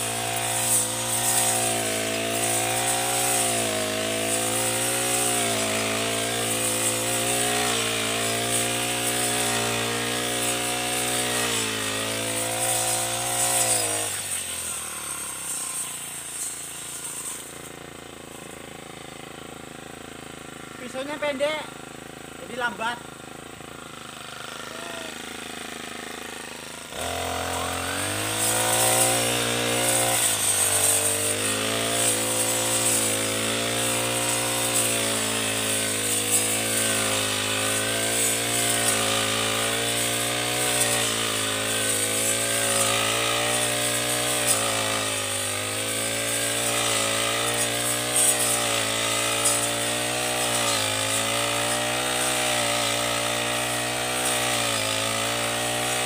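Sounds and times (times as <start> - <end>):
blade cutting tall grass: 0.0 - 56.0
brush cutter engine revving: 0.0 - 56.0.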